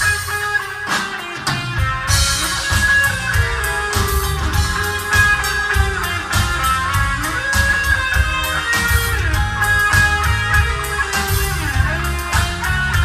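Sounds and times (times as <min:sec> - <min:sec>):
pop-rock band playing: 0:00.0 - 0:13.0.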